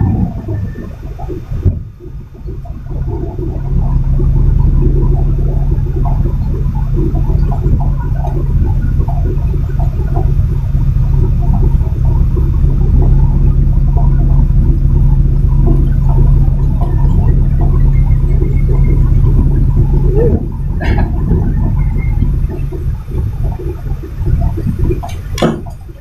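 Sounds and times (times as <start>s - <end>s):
rattling in truck cab: 0.0s - 26.0s
truck diesel engine rumble: 0.0s - 26.0s.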